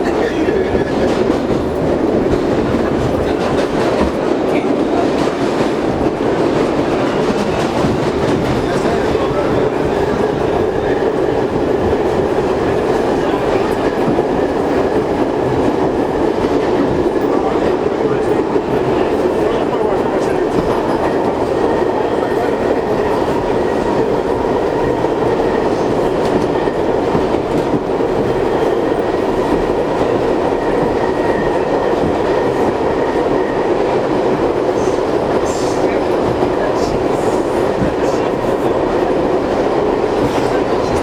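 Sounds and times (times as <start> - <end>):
subway wheels rumbling on rail: 0.0 - 41.0.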